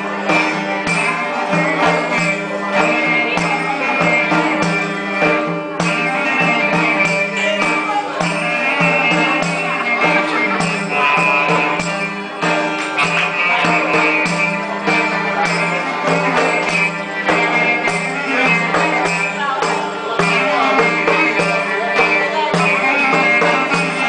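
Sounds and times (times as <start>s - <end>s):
clarinet melody: 0.0s - 24.0s
percussion beat: 0.0s - 24.0s.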